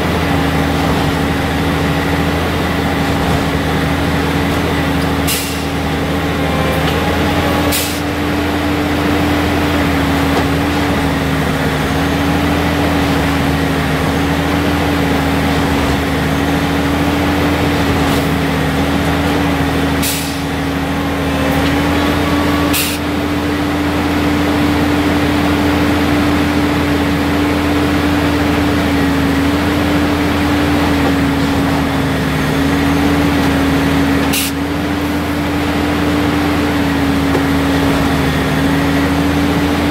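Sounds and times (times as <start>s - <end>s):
constant machine whine: 0.0s - 39.9s
machine engine drone: 0.0s - 39.9s.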